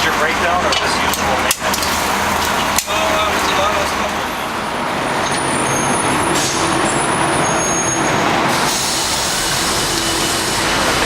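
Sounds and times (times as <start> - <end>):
city road traffic: 0.0 - 11.0
trucks and buses passing: 0.0 - 11.0.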